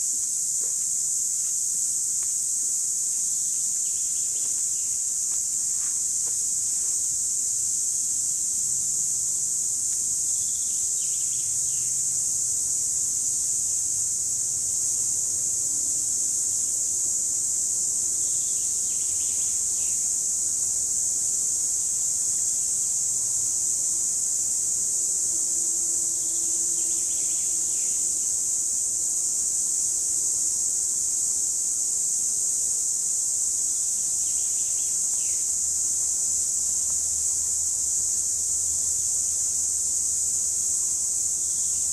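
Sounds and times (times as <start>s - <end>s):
cicadas buzzing: 0.0s - 41.9s.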